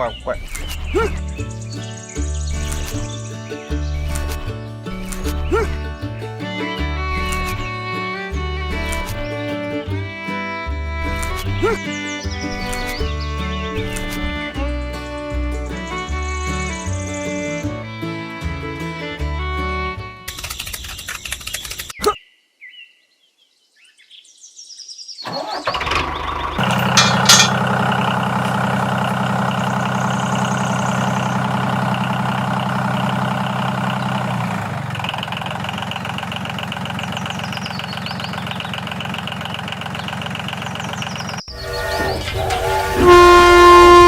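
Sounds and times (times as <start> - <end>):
engine idling: 0.0 - 20.4, 25.3 - 44.0.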